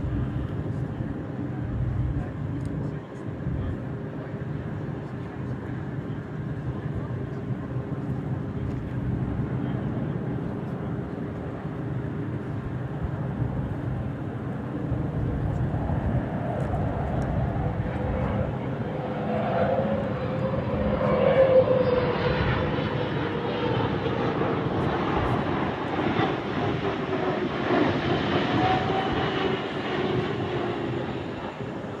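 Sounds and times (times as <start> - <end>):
jet airliner passing: 0.0 - 32.0.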